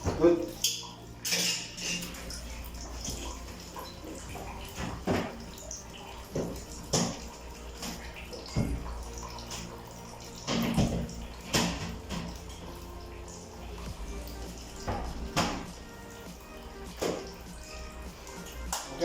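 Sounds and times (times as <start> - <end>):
washing machine hum: 0.0 - 19.0
water sloshing in washing machine: 0.0 - 19.0
water splashes: 0.0 - 19.0.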